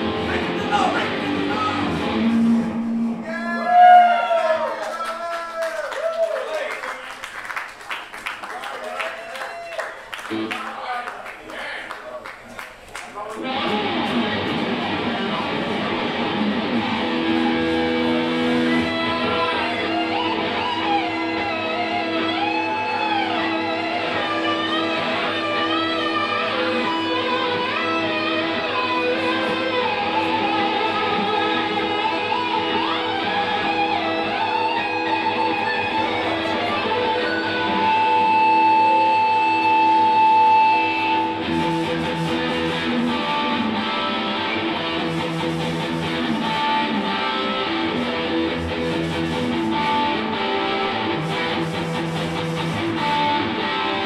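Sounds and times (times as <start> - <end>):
electric guitar melody: 0.0 - 3.3, 13.3 - 54.0.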